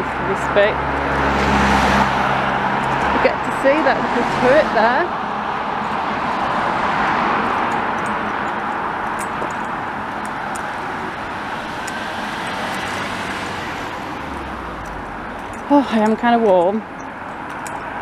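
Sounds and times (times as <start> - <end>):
car passing: 0.0 - 18.0
road traffic passing: 0.0 - 18.0.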